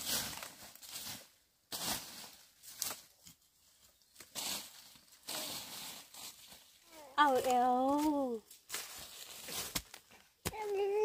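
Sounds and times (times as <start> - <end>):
rustling and scraping: 0.0 - 10.3.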